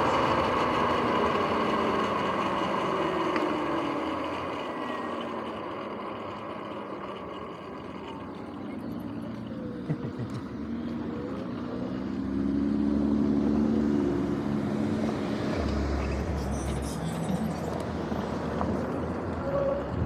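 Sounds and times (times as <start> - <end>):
cars passing with tyre noise: 0.0 - 20.0.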